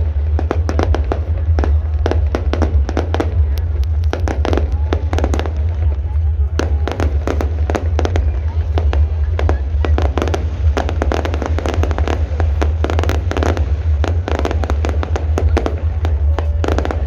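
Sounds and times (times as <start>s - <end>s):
fireworks bangs and crackles: 0.0s - 17.0s
steady low rumble: 0.0s - 17.0s.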